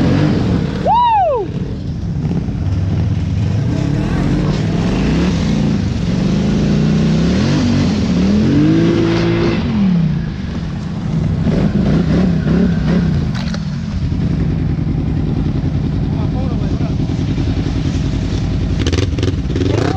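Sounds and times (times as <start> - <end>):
small off-road engine revving: 0.0 - 10.4, 11.4 - 15.5, 16.2 - 19.9.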